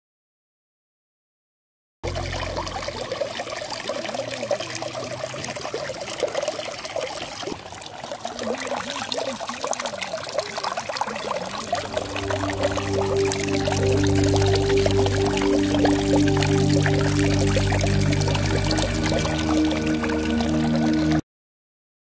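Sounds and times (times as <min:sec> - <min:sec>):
water trickling into a pool: 0:02.0 - 0:21.2.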